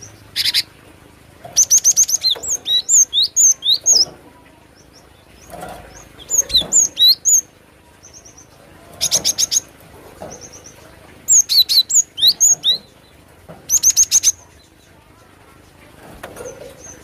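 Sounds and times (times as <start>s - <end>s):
bird chirping: 1.4s - 15.1s.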